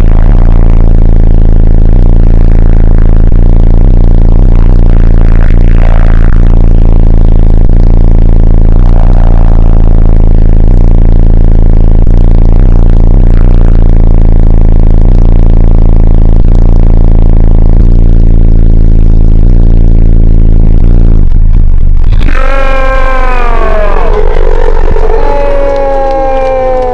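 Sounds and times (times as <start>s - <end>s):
distorted deep bass tone: 0.0s - 26.9s.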